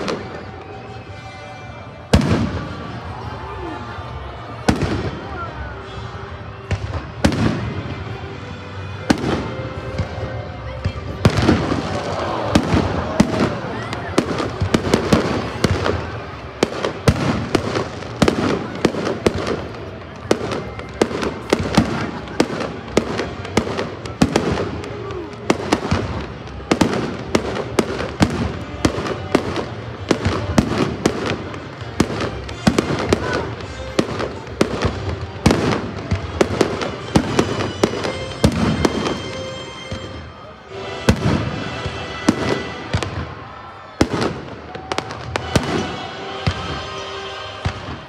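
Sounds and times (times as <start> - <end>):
fireworks bursting with bangs: 0.0 - 0.8, 2.1 - 3.4, 4.6 - 5.7, 6.6 - 8.2, 9.0 - 48.0
fireworks crackling: 0.0 - 48.0.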